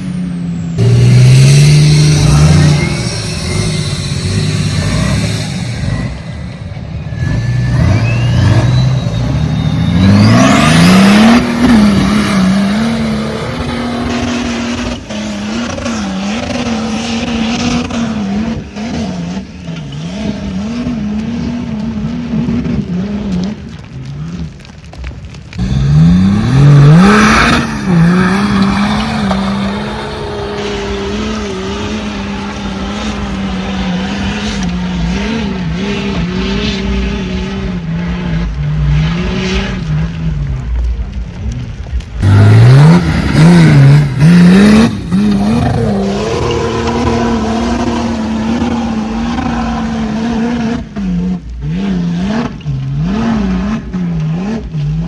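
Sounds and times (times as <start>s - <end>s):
off-road vehicle engine revving: 0.0s - 24.8s, 25.5s - 55.0s.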